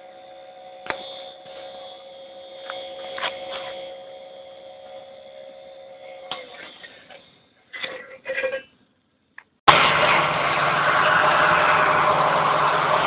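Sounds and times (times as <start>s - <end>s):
uncapping machine humming: 0.0s - 8.0s, 9.7s - 13.0s.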